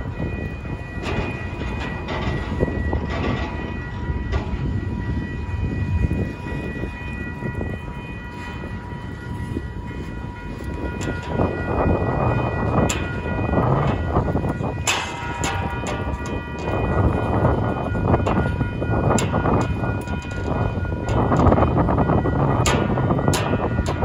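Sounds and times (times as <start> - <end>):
freight train wheels rumbling: 0.0 - 24.0
thin steady whine: 0.0 - 24.0
train cars clanking: 0.0 - 24.0.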